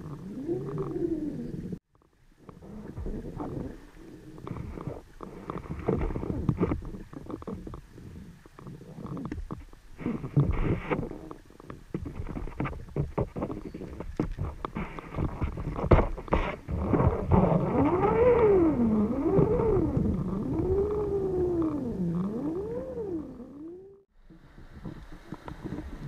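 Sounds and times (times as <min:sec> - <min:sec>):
muffled underwater rumble: 0:00.0 - 0:26.0
underwater clicks and crackles: 0:00.0 - 0:26.0.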